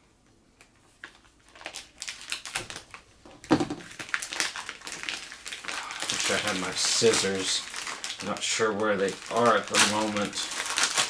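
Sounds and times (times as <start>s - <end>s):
package crinkling and rustling: 0.6s - 11.0s.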